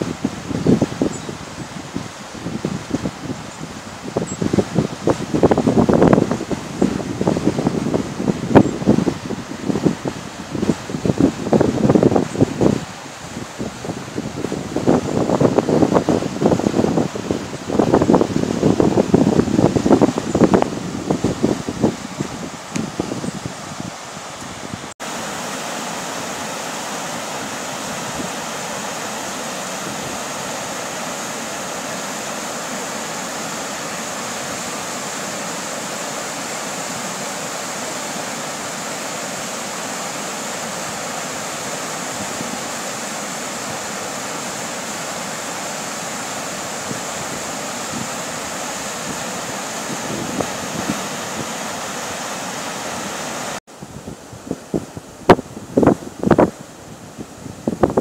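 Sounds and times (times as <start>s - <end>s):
floodwater rushing over gravel: 1.7s - 53.6s.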